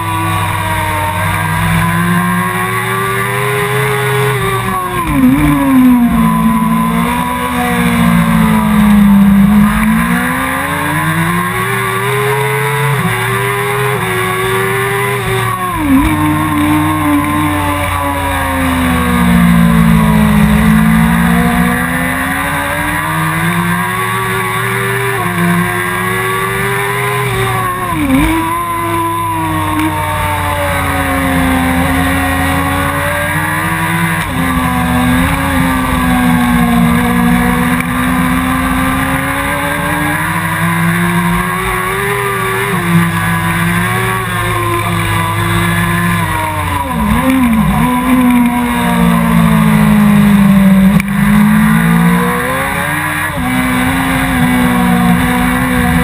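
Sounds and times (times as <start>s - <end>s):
motorcycle engine racing: 0.0s - 56.0s.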